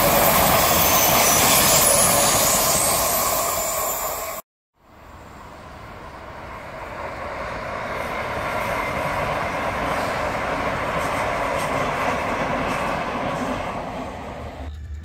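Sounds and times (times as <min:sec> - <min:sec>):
distant train passing: 0:00.0 - 0:15.0.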